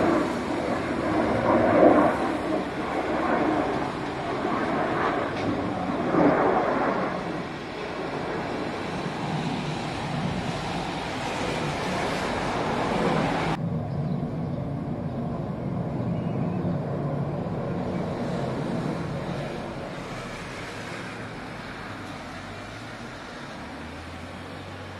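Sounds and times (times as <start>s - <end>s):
jet engine roar: 0.0s - 24.9s
low jet rumble: 0.0s - 24.9s.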